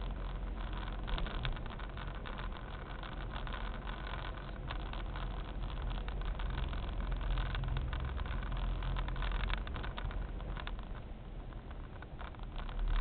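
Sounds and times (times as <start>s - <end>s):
car engine hum: 0.0s - 13.0s.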